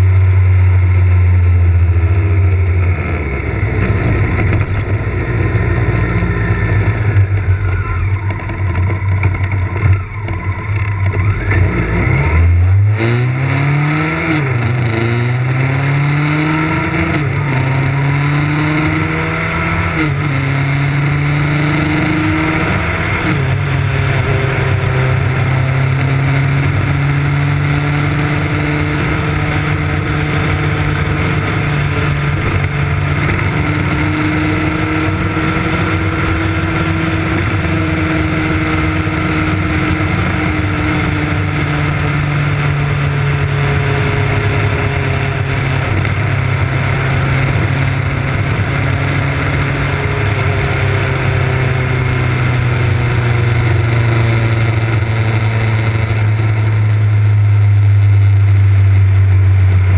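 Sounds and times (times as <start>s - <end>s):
motorcycle engine running: 0.0s - 59.9s
road noise: 0.0s - 59.9s.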